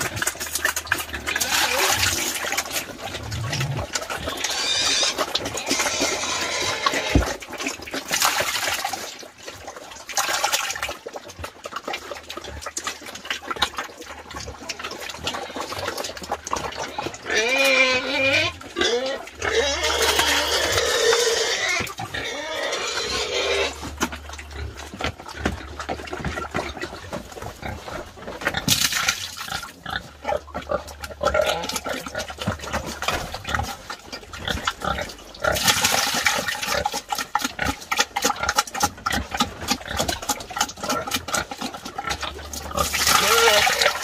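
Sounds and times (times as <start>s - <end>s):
pigs squealing: 0.0s - 7.5s, 15.3s - 44.0s
pigs grunting: 0.0s - 8.1s, 11.4s - 44.0s.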